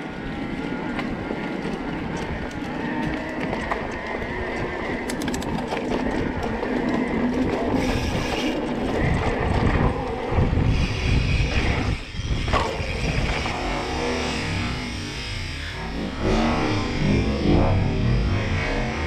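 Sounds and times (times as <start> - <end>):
tyres rolling on dirt trail: 0.0 - 19.0
wind buffeting microphone: 0.0 - 19.0.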